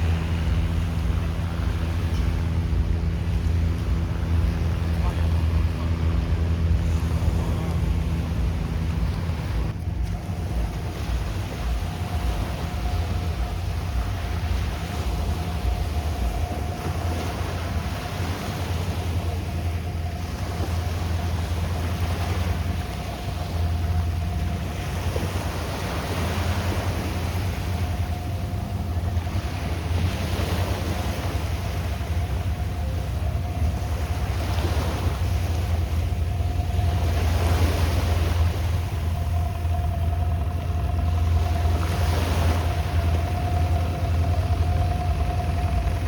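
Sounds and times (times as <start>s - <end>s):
faint motor hum: 0.0s - 46.0s
sea waves washing onto beach: 0.0s - 46.0s
wind rumbling on microphone: 0.0s - 46.0s.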